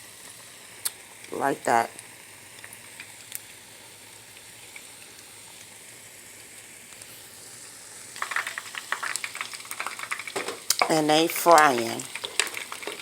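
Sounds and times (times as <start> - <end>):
oil popping and crackling: 0.0 - 5.8, 8.0 - 13.0
food frying in hot oil: 0.0 - 13.0.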